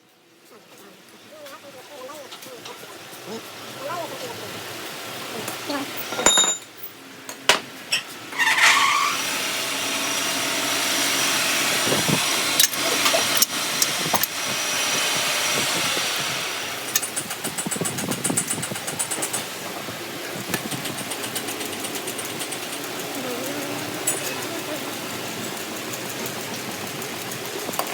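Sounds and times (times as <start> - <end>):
engine running with hiss: 0.0 - 27.9.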